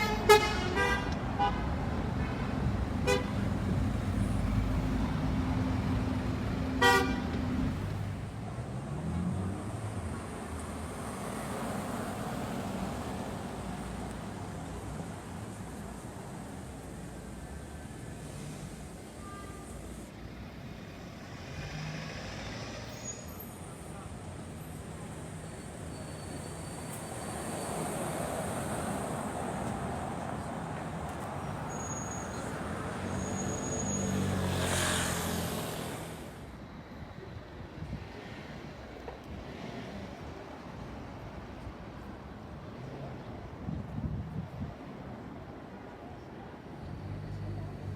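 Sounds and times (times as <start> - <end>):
rumble of passing traffic: 0.0 - 47.9.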